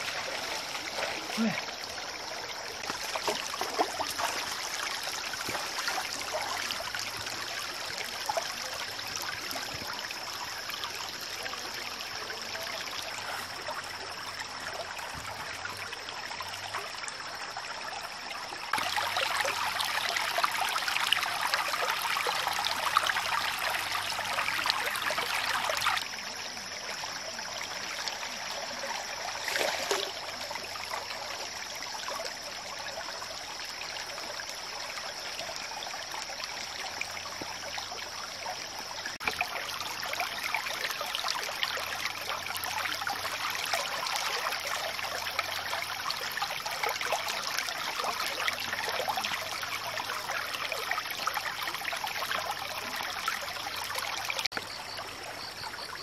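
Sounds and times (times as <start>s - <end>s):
stream water trickling: 0.0s - 56.0s.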